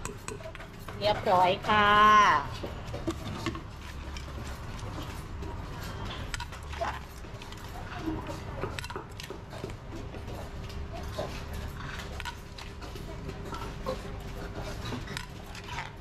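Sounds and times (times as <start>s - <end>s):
pestle and spoon knocking mortar: 0.0s - 16.0s.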